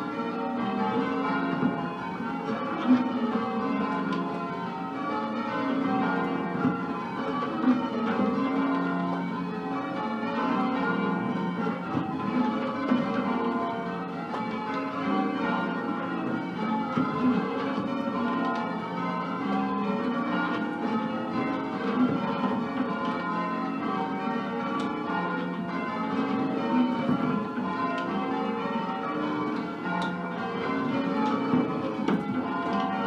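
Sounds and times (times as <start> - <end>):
church bells change ringing: 0.0 - 33.0.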